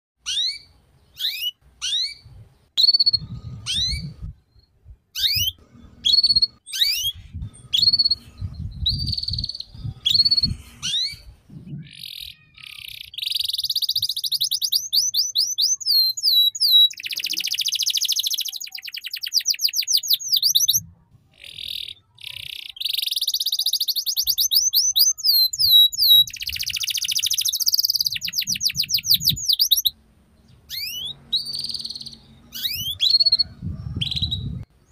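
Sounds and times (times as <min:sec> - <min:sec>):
canary singing: 0:00.2 - 0:34.9.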